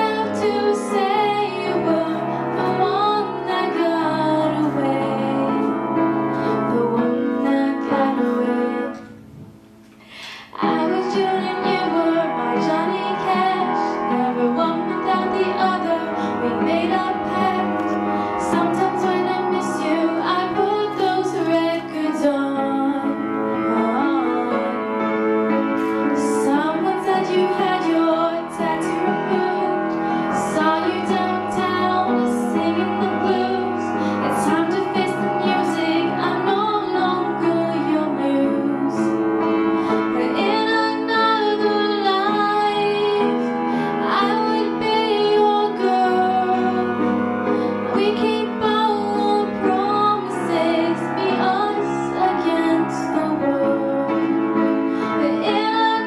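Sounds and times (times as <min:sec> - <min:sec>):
woman singing a pop song: 0:00.0 - 0:05.9, 0:06.5 - 0:09.0, 0:10.1 - 0:25.0, 0:26.2 - 0:39.2, 0:39.8 - 0:54.3, 0:55.0 - 0:56.0
acoustic piano: 0:00.0 - 0:56.0.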